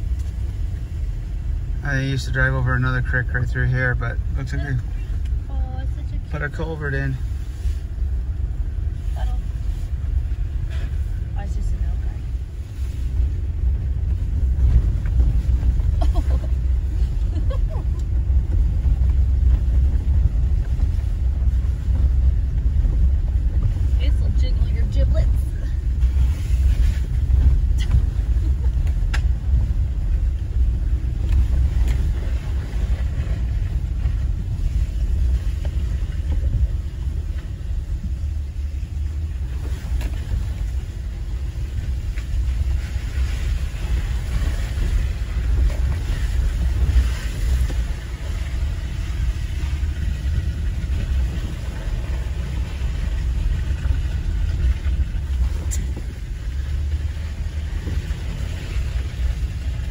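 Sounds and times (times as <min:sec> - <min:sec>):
low rumble of engine and tyres: 0:00.0 - 0:59.9.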